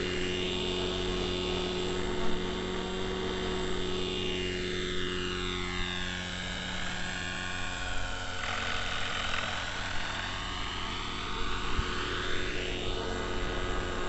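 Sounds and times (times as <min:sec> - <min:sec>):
model helicopter engine buzzing: 0:00.0 - 0:14.0.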